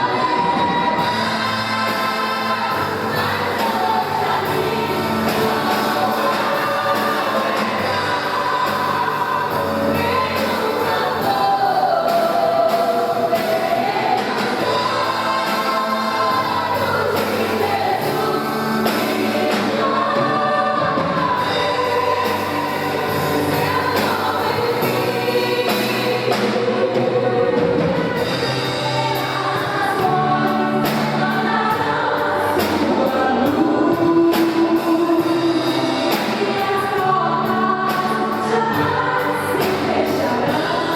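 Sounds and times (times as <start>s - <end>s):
band with steady beat: 0.0s - 40.9s
group singing gospel song: 0.0s - 40.9s.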